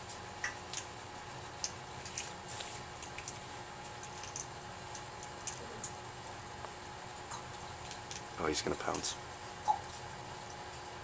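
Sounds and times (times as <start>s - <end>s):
kittens clicking and scratching: 0.0s - 10.9s
room hum: 0.0s - 11.0s.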